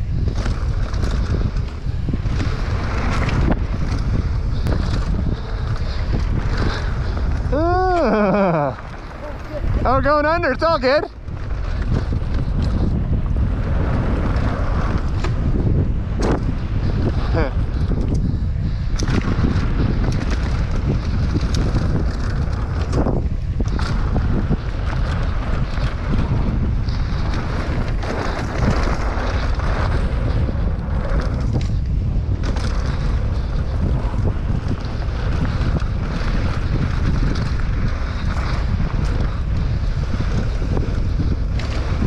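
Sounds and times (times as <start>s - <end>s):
bike clicks and rattles: 0.0s - 42.0s
tyres rumbling on dirt trail: 0.0s - 42.0s
wind buffeting microphone: 0.0s - 42.0s.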